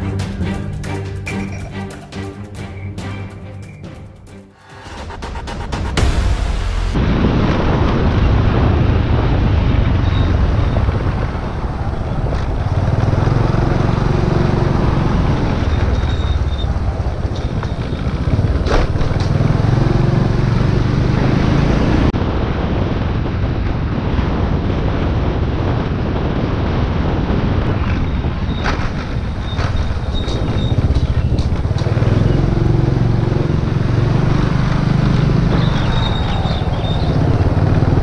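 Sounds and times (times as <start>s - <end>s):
wind rushing over microphone: 7.0s - 38.0s.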